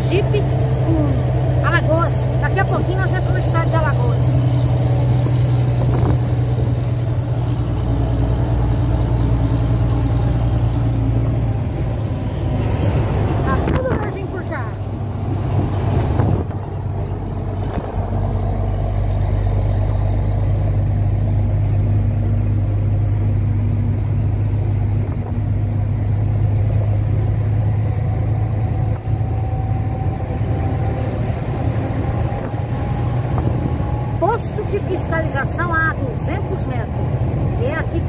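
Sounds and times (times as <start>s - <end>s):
road noise: 0.0s - 38.0s
truck diesel engine droning: 0.0s - 38.0s.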